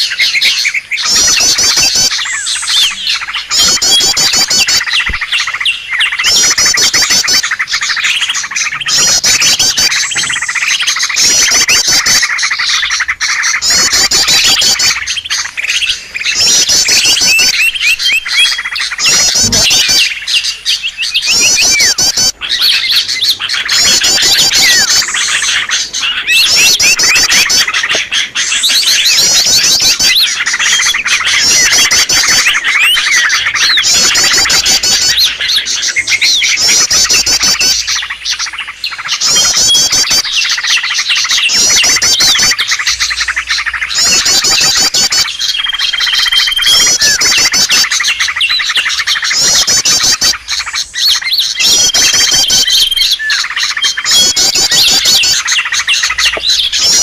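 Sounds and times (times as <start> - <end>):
high rapid bird trill: 0.0 - 57.0
songbirds chirping and twittering: 0.0 - 57.0.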